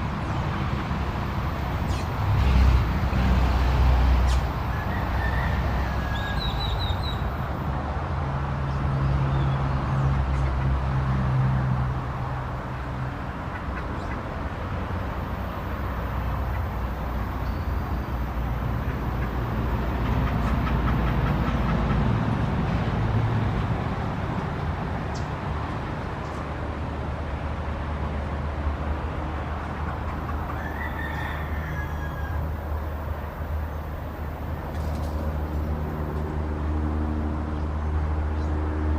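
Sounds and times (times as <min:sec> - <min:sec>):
motor traffic rumble: 0:00.0 - 0:38.9.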